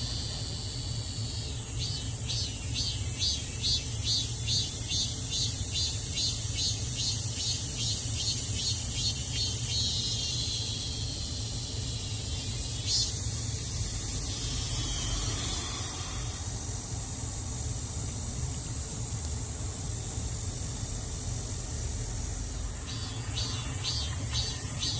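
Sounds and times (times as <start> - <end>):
cicadas calling: 0.0 - 24.9.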